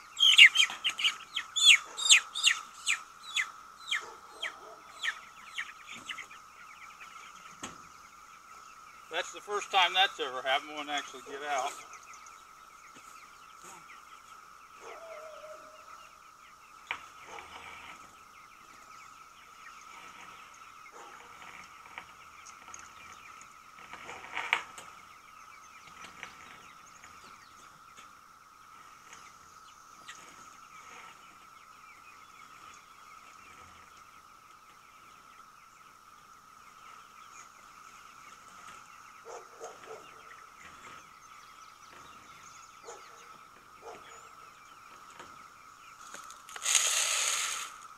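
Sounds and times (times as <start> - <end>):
steady high hum: 0.0 - 39.2
chickens calling: 0.0 - 47.9.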